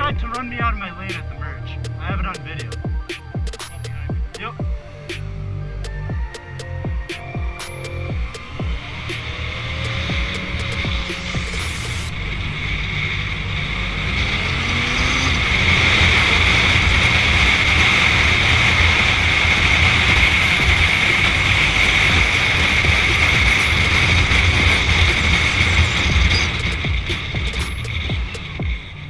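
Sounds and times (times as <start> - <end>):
motorcycle engine rumble: 0.0 - 29.0.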